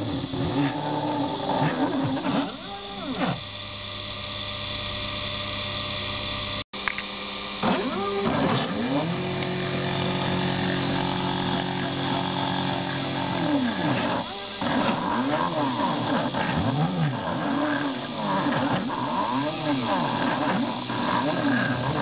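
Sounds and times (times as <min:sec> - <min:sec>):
milling motor running: 0:00.0 - 0:22.0
stepper motors whining: 0:00.0 - 0:22.0.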